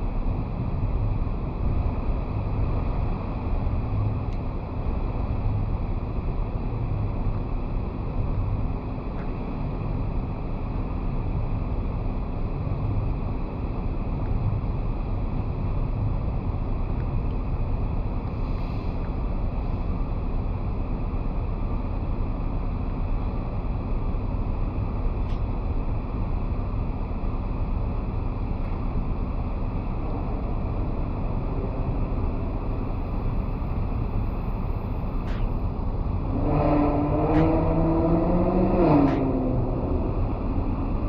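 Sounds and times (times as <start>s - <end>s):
car road noise: 0.0s - 41.0s.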